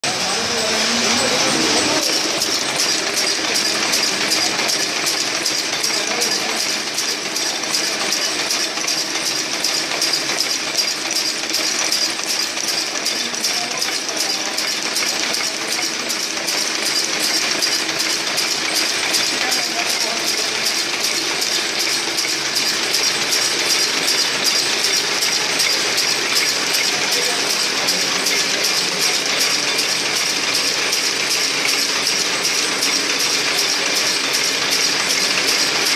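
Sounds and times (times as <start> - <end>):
machine metallic clatter: 0.0 - 35.9.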